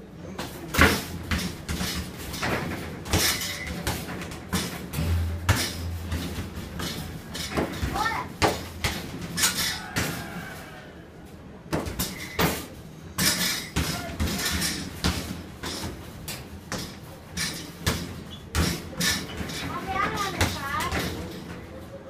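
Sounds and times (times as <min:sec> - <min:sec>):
basketballs hitting backboard and hoop: 0:00.4 - 0:10.4, 0:11.7 - 0:21.5.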